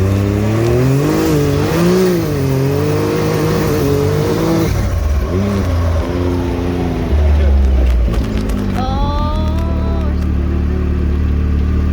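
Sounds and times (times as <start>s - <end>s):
utility vehicle engine revving: 0.0s - 11.9s.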